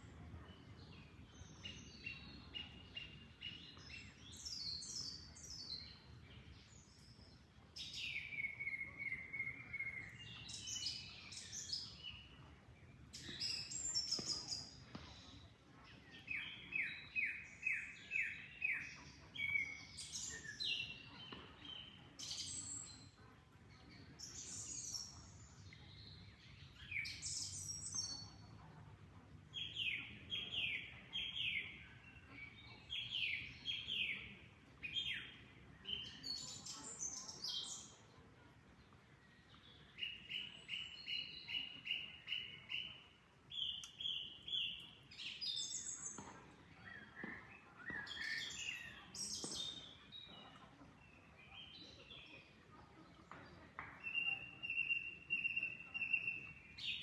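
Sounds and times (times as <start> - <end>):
faint low background noise: 0.0 - 57.0
songbirds singing: 0.0 - 57.0.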